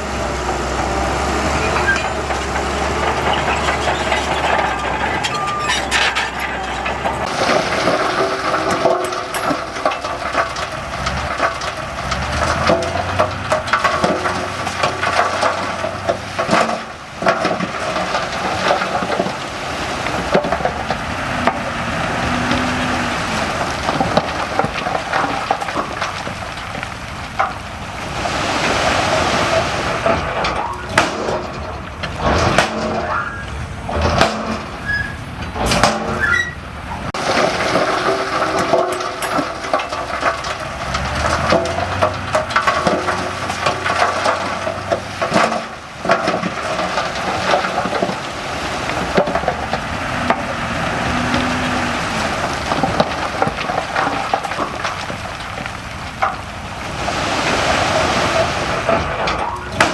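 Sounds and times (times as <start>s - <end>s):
diesel machine hum: 0.0s - 59.9s
soil and stones crunching: 0.0s - 59.9s.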